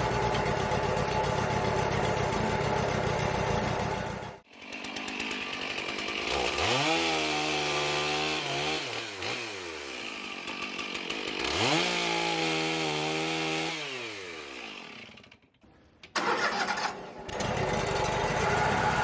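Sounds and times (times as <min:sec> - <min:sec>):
chainsaw revving: 0:01.0 - 0:15.4, 0:16.2 - 0:19.0.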